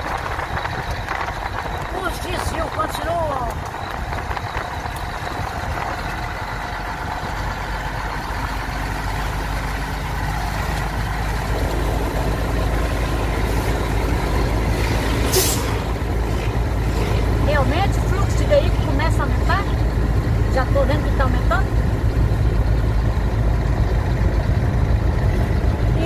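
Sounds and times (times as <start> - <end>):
road noise: 0.0 - 26.0
truck engine running: 0.0 - 26.0.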